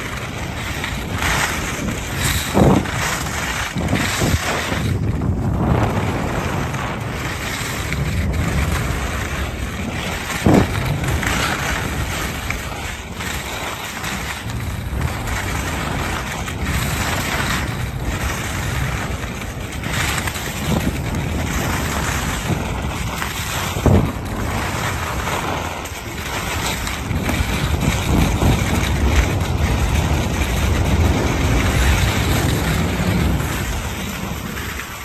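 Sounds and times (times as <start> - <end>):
skis scraping on snow: 0.0 - 35.0
wind buffeting microphone: 0.0 - 35.0.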